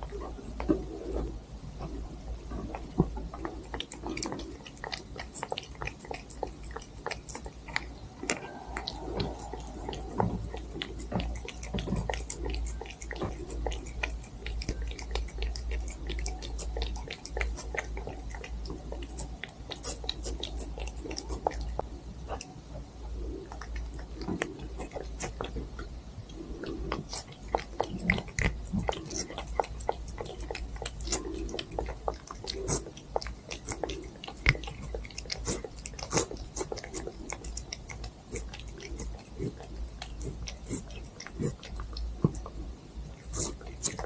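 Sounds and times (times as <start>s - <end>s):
cat chewing crunchy food: 0.0s - 44.0s.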